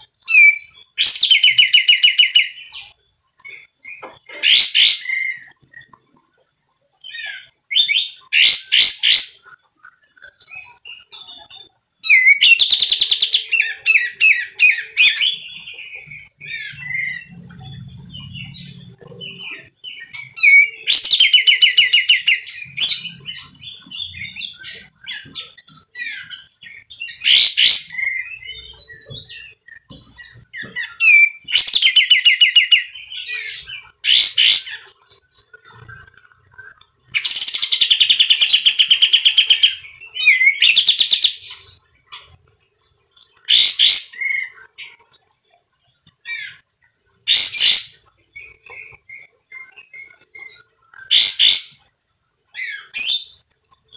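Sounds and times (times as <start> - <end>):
bird chattering song: 0.0 - 6.2, 6.9 - 42.4, 43.2 - 45.3, 46.0 - 51.9.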